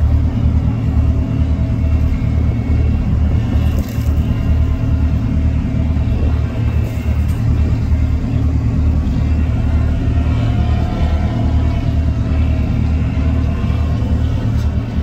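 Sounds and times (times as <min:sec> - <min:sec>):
boat engine rumble: 0:00.0 - 0:15.0
faint steady drone: 0:00.0 - 0:15.0
wind buffeting microphone: 0:00.0 - 0:15.0.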